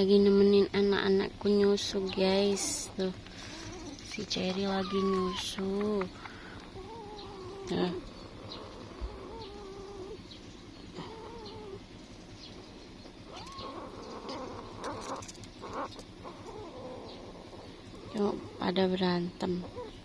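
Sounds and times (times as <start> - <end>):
kittens mewing: 1.8 - 20.0.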